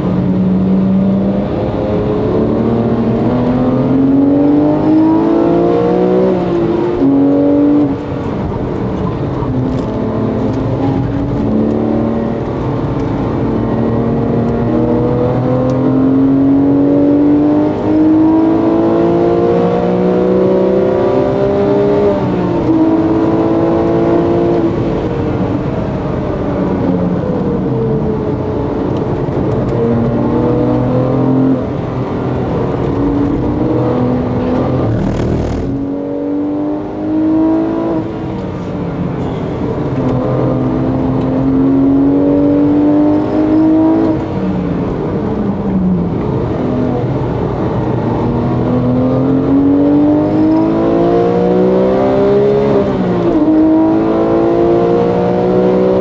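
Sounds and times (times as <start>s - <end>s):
car engine accelerating from cabin: 0.0s - 56.0s.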